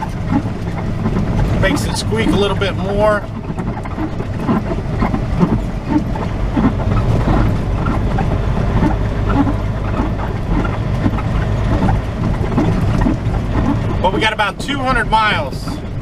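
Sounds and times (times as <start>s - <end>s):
truck hood squeaking and creaking: 0.0s - 14.3s
truck engine and road rumble: 0.0s - 16.0s.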